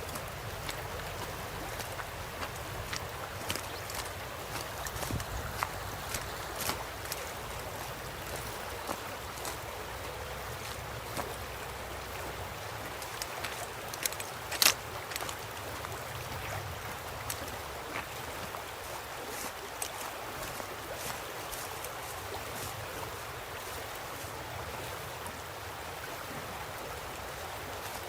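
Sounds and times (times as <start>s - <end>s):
small splashes and ticks: 0.0s - 24.7s, 27.1s - 28.0s
river water flowing: 0.0s - 28.0s.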